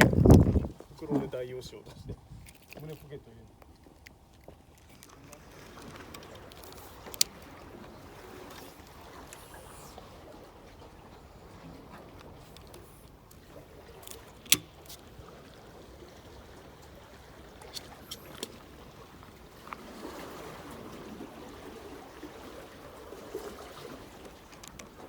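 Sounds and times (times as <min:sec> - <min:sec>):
water trickling and lapping: 0:00.0 - 0:25.0.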